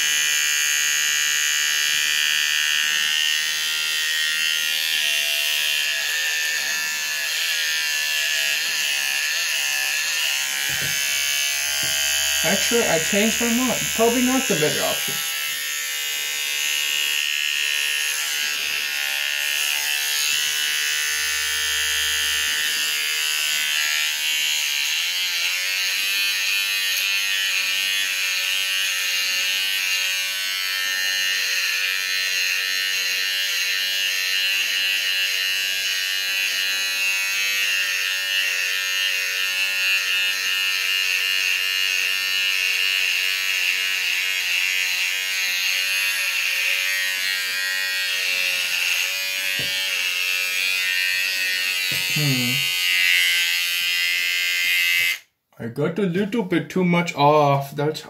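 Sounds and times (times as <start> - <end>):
electric beard trimmer buzzing: 0.0 - 55.4.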